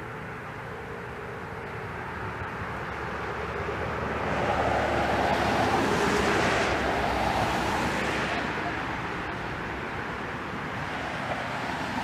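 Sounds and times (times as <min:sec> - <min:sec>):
vehicle passing: 0:02.3 - 0:12.0.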